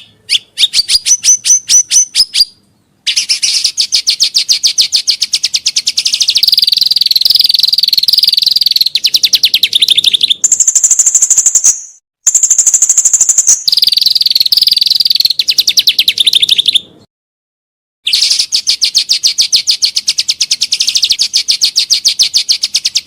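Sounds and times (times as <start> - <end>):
songbird singing chattering trills: 0.0 - 17.1, 18.1 - 23.0.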